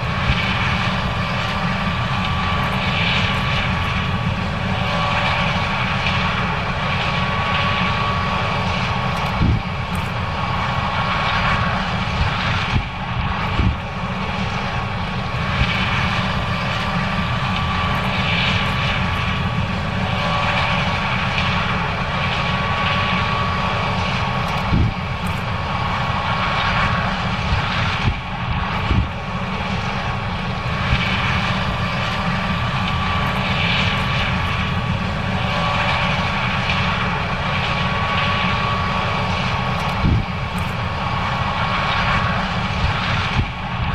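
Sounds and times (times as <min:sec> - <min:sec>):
combine engine drone: 0:00.0 - 0:43.9
steady high whine: 0:00.0 - 0:43.9.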